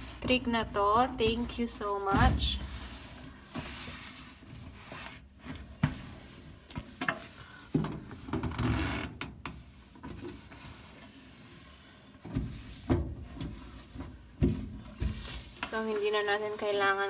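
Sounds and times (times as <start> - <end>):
cloth wiping inside microwave: 0.0 - 8.5, 9.5 - 17.0.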